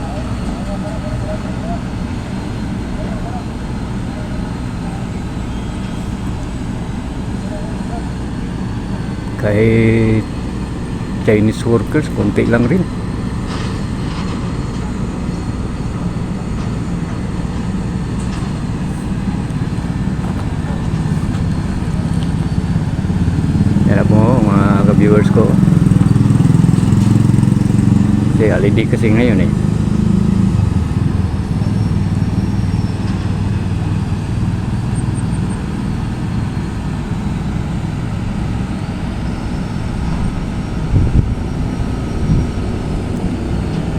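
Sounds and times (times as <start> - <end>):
engine drone: 0.0 - 43.9
traffic rumble: 0.0 - 43.9.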